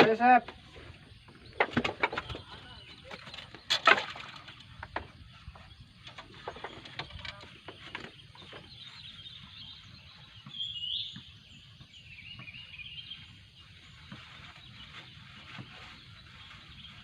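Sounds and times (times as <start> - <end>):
faint bird chirps: 0.6 - 17.0.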